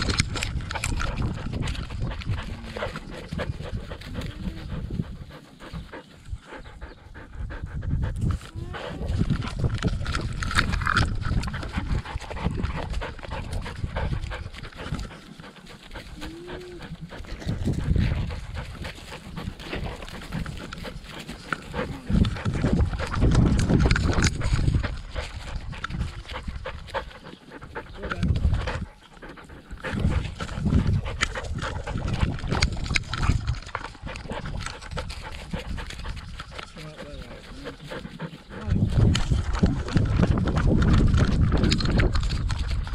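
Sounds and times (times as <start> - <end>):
dog panting: 0.0 - 42.9
wind and movement rumble: 0.0 - 42.9.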